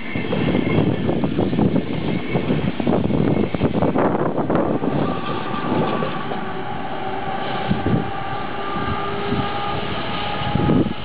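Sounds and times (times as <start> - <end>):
electric locomotive whine: 0.0 - 11.0
train wheels rumbling on rails: 0.0 - 11.0
train knocks: 1.9 - 11.0.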